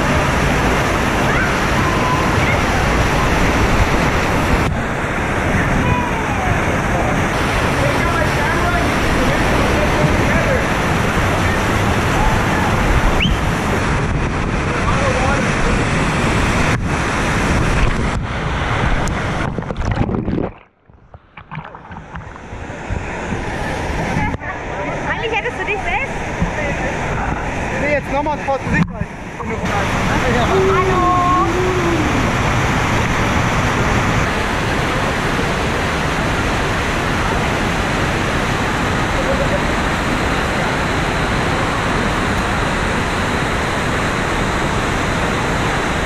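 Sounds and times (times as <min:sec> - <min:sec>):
river water rushing and splashing: 0:00.0 - 0:46.0.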